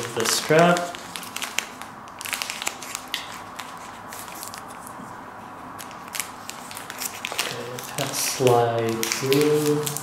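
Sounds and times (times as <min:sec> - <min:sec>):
plastic wrap crinkling: 0:00.0 - 0:05.1, 0:05.7 - 0:10.0.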